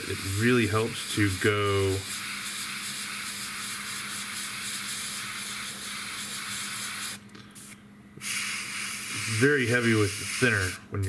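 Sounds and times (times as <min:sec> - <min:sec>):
airbrush spraying hiss: 0:00.0 - 0:10.8.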